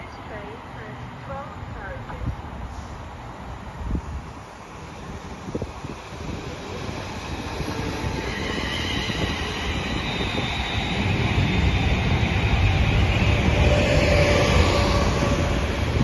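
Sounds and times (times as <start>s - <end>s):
train rumble: 0.0s - 16.0s
high whine from rails: 2.8s - 16.0s.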